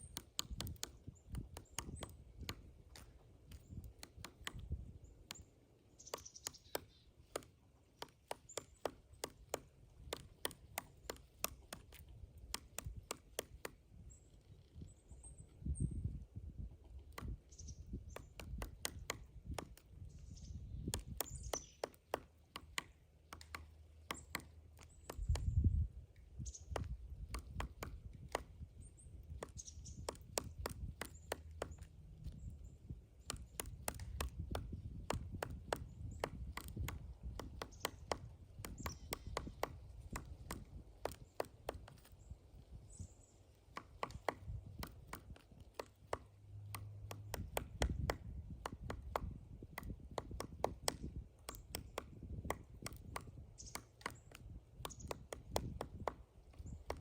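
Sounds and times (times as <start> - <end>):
woodpecker knocking on wood: 0.0 - 14.7, 16.9 - 25.7, 26.4 - 57.0.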